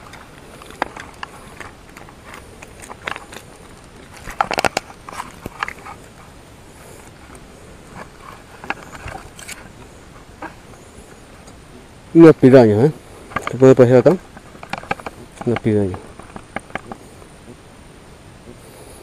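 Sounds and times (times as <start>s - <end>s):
crunches on pebbles: 0.0s - 17.3s.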